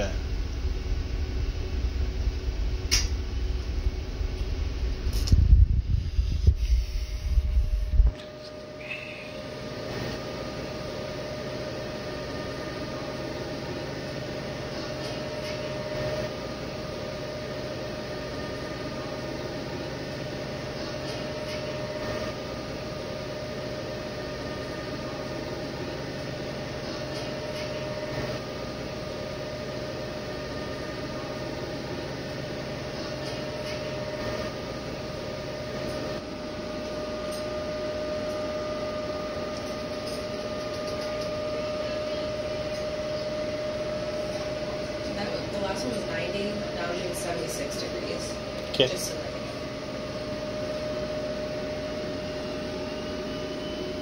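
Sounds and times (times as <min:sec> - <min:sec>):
gantry drive mechanical hum: 0:00.0 - 0:54.0
lower hum: 0:00.0 - 0:54.0.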